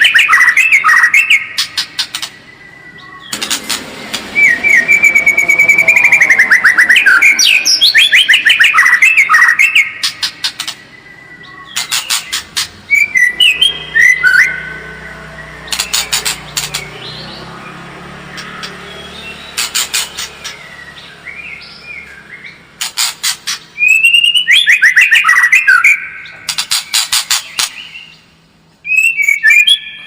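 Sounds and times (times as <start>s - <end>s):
songbird whistling and trilling: 0.0s - 3.4s, 4.3s - 17.5s, 18.3s - 30.0s.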